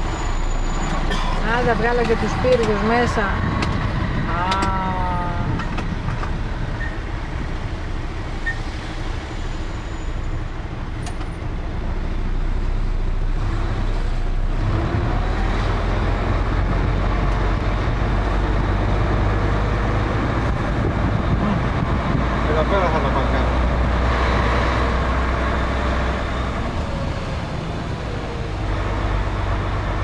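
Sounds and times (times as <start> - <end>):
truck engine rumble: 0.0 - 30.0.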